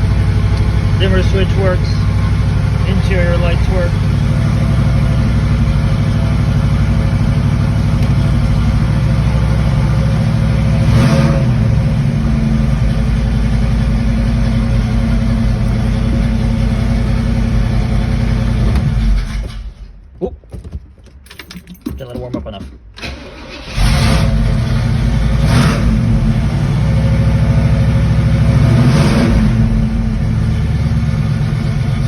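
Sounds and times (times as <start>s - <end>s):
car engine idling: 0.0s - 19.7s, 23.1s - 32.0s.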